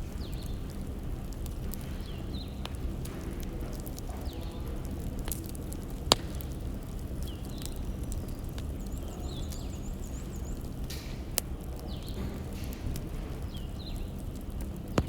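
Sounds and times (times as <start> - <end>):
fire sharp pops: 0.0 - 15.0
low rumble of burning logs: 0.0 - 15.0.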